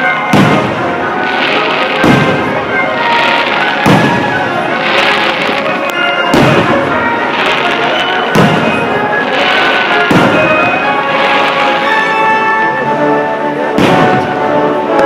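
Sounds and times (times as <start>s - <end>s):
fireworks booming and crackling: 0.0s - 12.7s, 13.6s - 15.0s
music: 0.0s - 15.0s.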